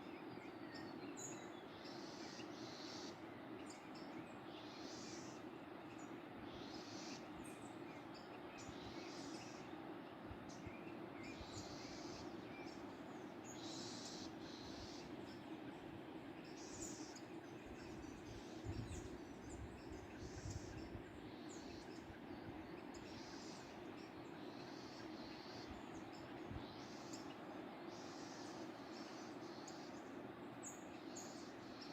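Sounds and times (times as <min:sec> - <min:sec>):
small birds calling: 0:00.0 - 0:31.9.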